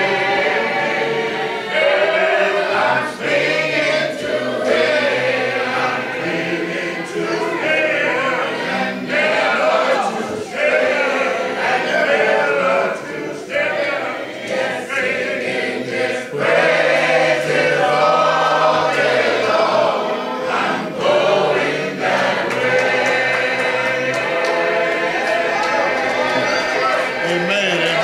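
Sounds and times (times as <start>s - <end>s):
choir singing a hymn a cappella: 0.0s - 28.0s.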